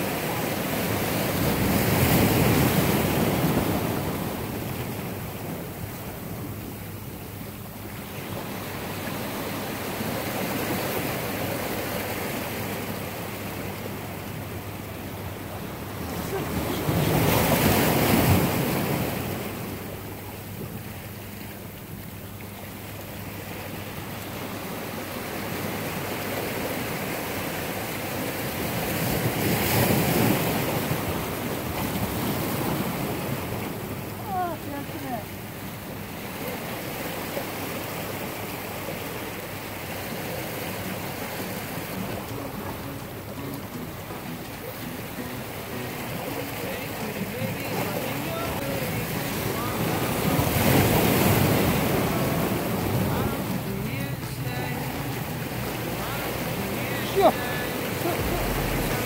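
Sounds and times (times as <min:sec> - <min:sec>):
surf breaking over rocks: 0:00.0 - 0:22.6, 0:23.2 - 0:59.0.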